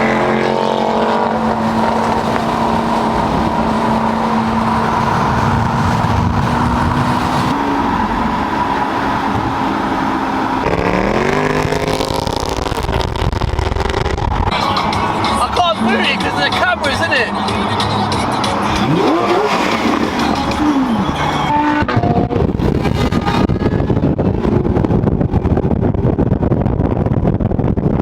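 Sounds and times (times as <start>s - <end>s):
car engine running: 0.0s - 27.4s
road noise: 0.0s - 28.0s.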